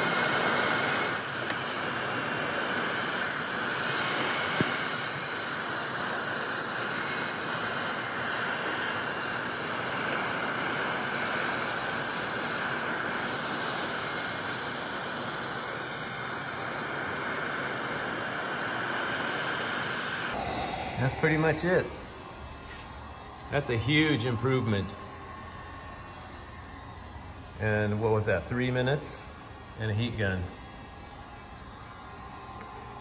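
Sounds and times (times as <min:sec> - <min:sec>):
heat gun blowing: 0:00.0 - 0:33.0.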